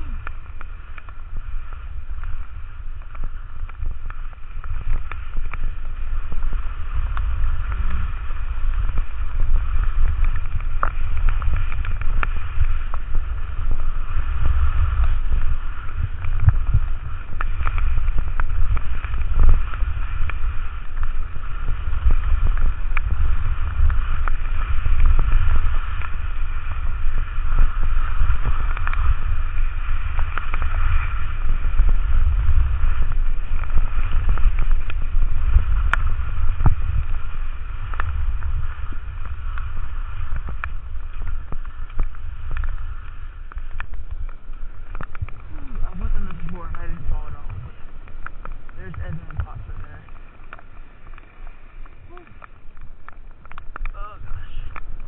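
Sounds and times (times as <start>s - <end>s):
skis sliding on wet snow: 0.0s - 55.0s
small ticks: 0.0s - 55.0s
wind buffeting microphone: 0.0s - 55.0s.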